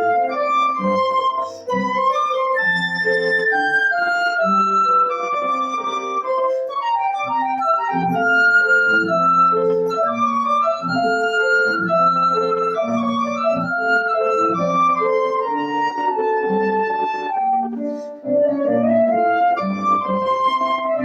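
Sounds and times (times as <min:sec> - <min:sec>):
flute playing slow melody: 0:00.0 - 0:21.0
piano chords: 0:00.0 - 0:21.0.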